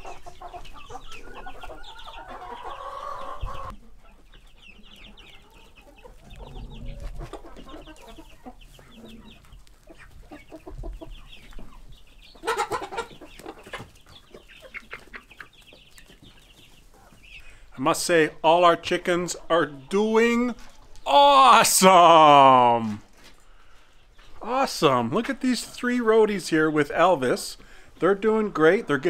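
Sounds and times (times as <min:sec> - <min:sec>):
hens clucking: 0:00.0 - 0:29.0.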